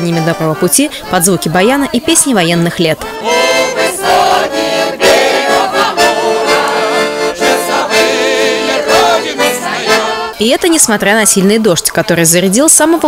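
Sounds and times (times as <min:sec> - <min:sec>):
button accordion chords: 0:00.0 - 0:13.0.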